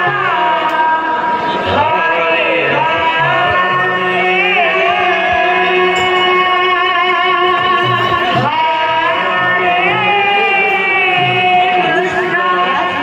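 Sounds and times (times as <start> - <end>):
amplified devotional singing: 0.0 - 13.0.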